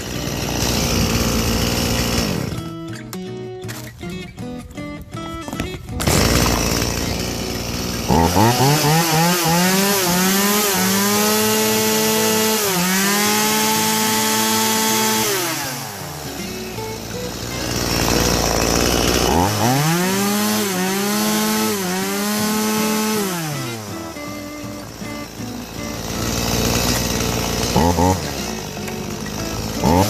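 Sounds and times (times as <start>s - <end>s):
chainsaw revving: 0.0s - 2.9s, 5.9s - 30.0s.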